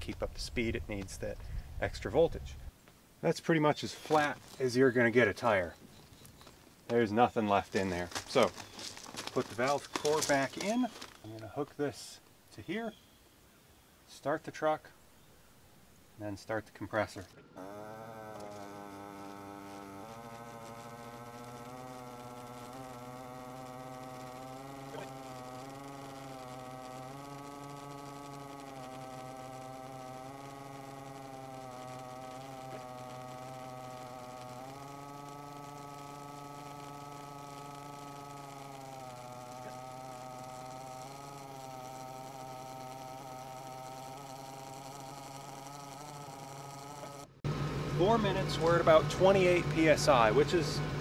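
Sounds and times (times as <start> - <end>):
tire compressor buzzing hum: 0.0 - 12.6, 13.3 - 51.0.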